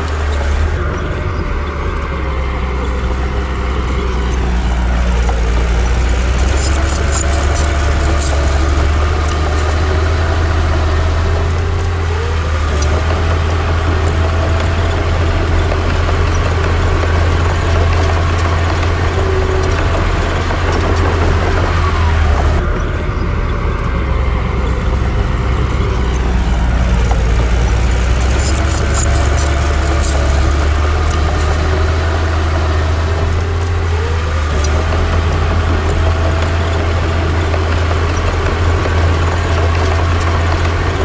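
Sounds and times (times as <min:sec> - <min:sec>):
heavy diesel machinery engine drone: 0:00.0 - 0:41.0.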